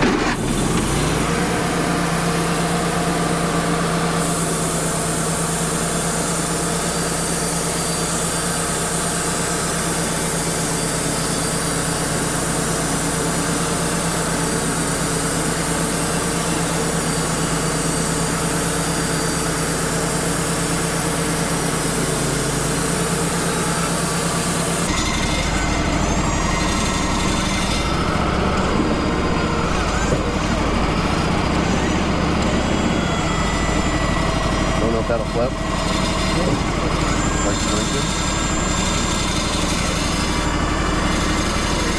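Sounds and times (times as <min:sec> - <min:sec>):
band sawmill cutting log: 0:00.0 - 0:41.9
engine hum: 0:00.0 - 0:41.9.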